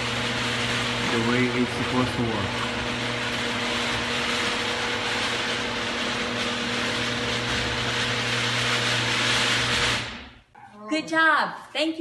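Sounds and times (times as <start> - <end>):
garage door opener running: 0.0 - 10.5.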